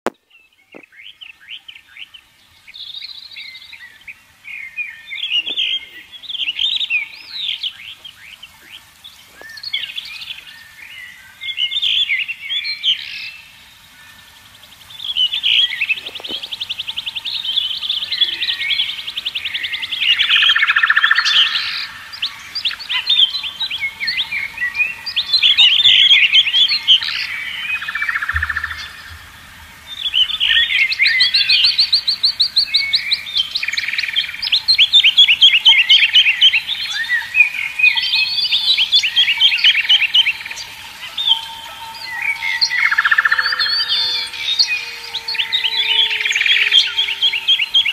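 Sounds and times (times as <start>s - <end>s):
birds chirping and twittering: 0.0s - 47.9s.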